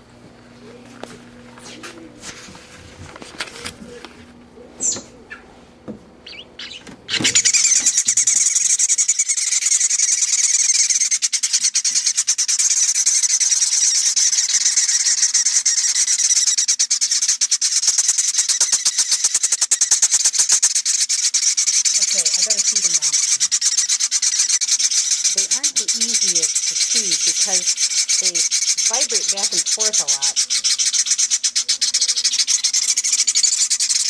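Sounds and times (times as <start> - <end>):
nestlings chittering: 4.8 - 5.5, 6.2 - 34.0.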